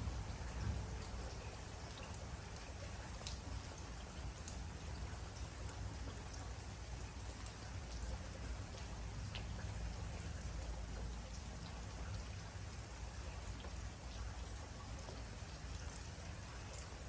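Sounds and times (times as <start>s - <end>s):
steady rain falling: 0.0s - 17.0s
raindrop ticks: 0.2s - 17.0s.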